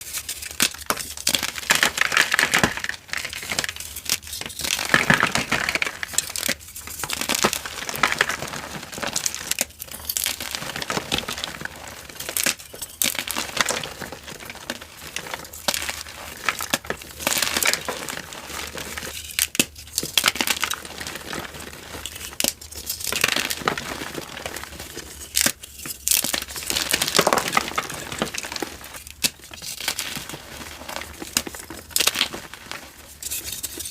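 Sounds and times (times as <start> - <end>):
chalk being crushed: 0.0 - 33.9.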